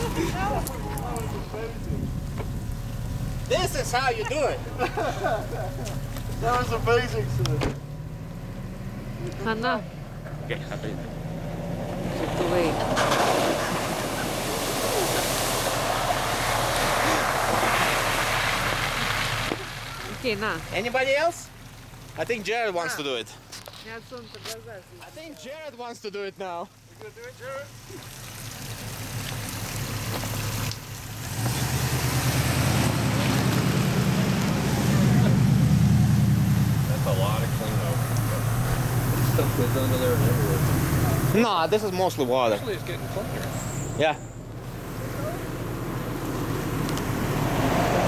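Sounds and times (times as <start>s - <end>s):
mud and water splashing: 0.0s - 7.1s, 11.6s - 26.1s, 26.8s - 48.0s
car engine droning: 0.0s - 25.7s, 26.7s - 48.0s.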